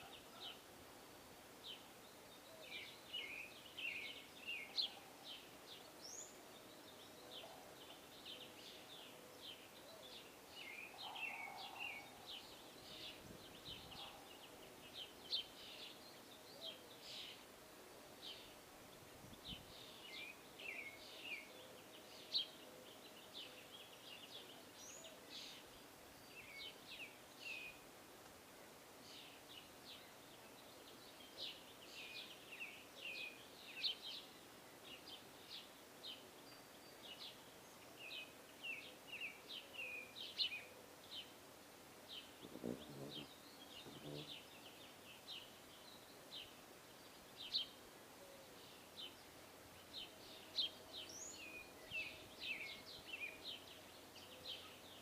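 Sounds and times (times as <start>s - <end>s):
small birds chirping: 0.0s - 27.9s, 28.5s - 55.0s.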